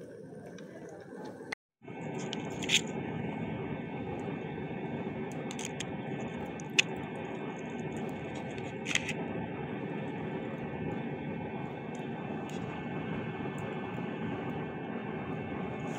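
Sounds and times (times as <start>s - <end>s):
background drone with hum: 0.0s - 15.9s.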